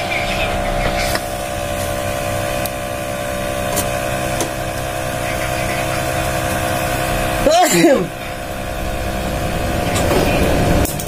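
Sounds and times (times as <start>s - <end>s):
photocopier humming: 0.0s - 11.0s.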